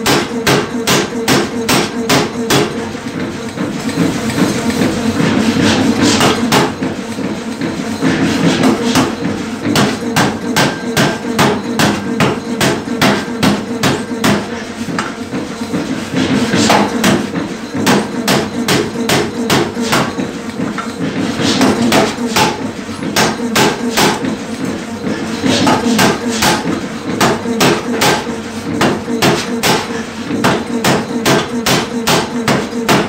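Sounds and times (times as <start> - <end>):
power hammer pounding steel: 0.0 - 33.0.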